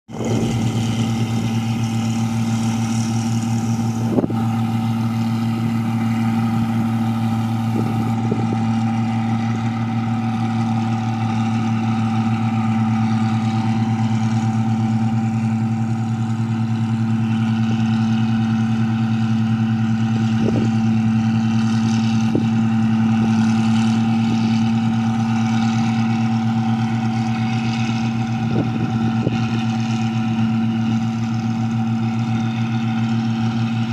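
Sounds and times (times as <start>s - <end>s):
machine engine running: 0.1s - 33.9s.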